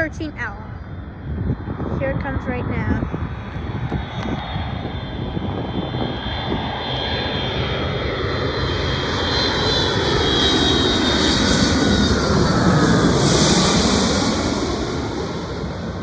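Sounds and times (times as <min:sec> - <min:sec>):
high fan whine: 0:00.0 - 0:16.0
jet airliner engines roaring: 0:00.0 - 0:16.0.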